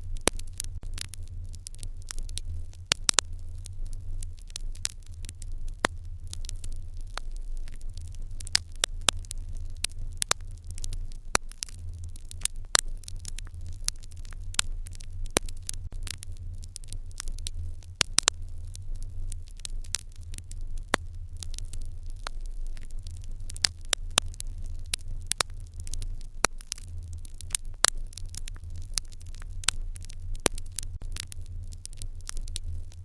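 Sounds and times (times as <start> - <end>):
low fire rumble: 0.0 - 33.0
wood fire crackling and popping: 0.0 - 33.0.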